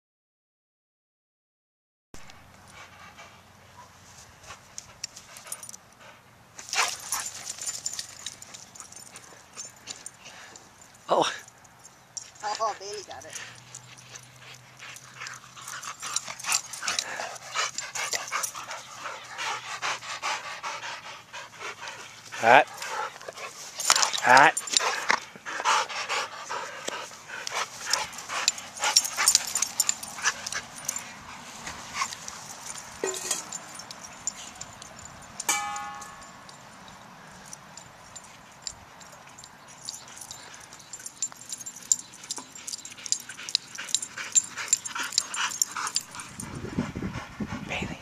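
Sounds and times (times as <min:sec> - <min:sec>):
dog panting: 0:02.7 - 0:11.4, 0:12.2 - 0:35.1, 0:37.4 - 0:48.0.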